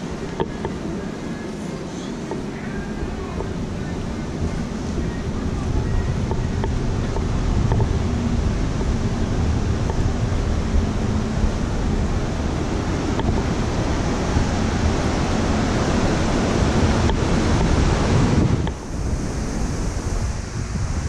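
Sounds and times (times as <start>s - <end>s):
seawater hissing in wake: 0.0s - 21.0s
wind on microphone: 0.0s - 21.0s.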